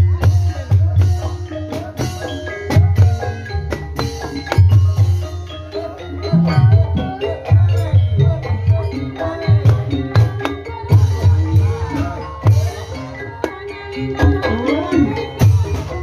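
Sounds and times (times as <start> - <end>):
drumming: 0.0 - 16.0
keyed percussion interlocking pattern: 0.0 - 16.0.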